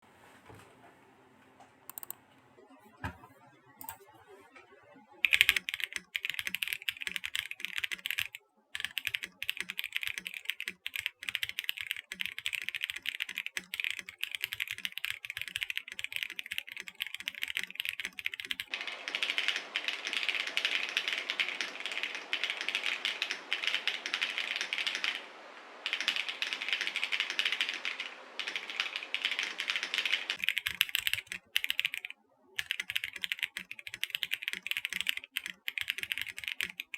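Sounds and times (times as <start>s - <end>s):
mechanical keyboard typing: 1.9s - 2.2s, 5.2s - 36.9s.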